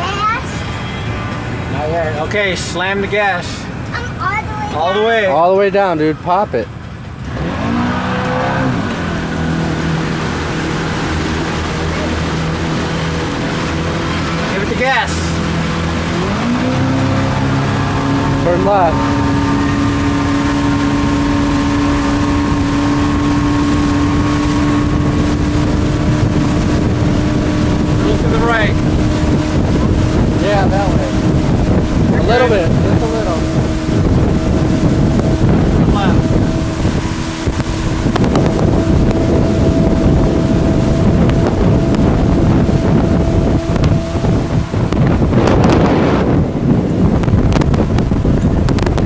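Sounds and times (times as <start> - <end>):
motorboat engine drone: 0.0 - 49.0
rushing water and air: 0.0 - 49.0
wind buffeting microphone: 5.6 - 49.0.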